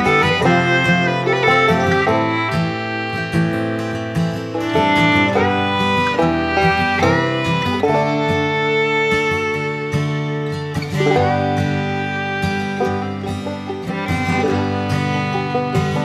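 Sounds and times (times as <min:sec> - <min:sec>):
acoustic string-band music: 0:00.0 - 0:16.0.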